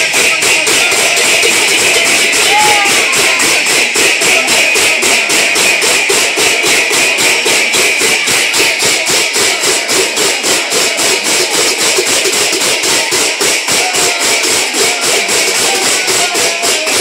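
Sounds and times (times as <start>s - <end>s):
brass hand cymbals clashing: 0.0s - 17.0s.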